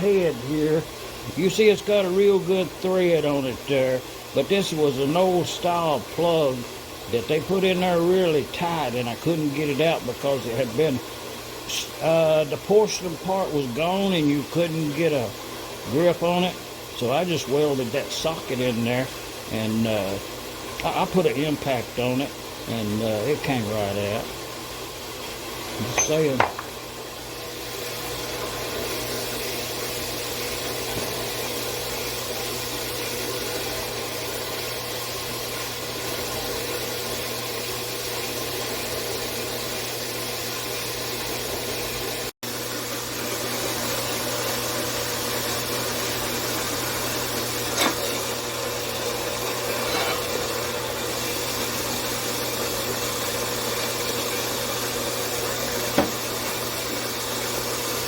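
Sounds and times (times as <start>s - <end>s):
metal-cutting bandsaw running: 0.0s - 58.0s.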